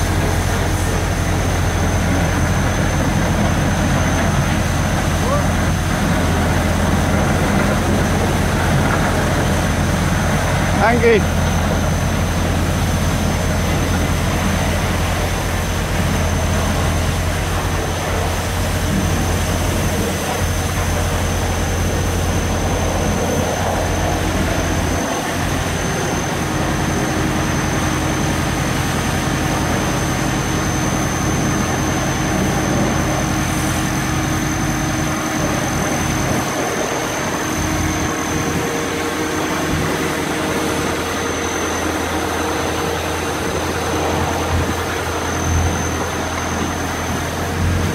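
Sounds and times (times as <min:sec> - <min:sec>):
diesel engine humming: 0:00.0 - 0:47.9
high-pitched whine: 0:00.0 - 0:47.9.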